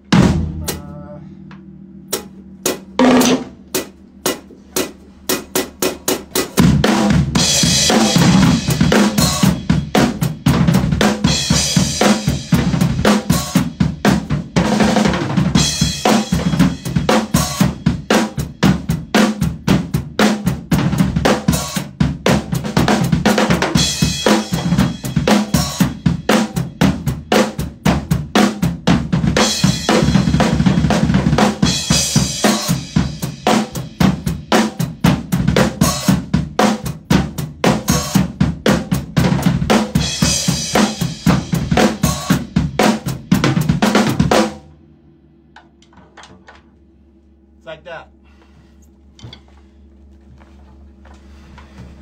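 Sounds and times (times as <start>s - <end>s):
drum kit groove: 0.0s - 44.8s.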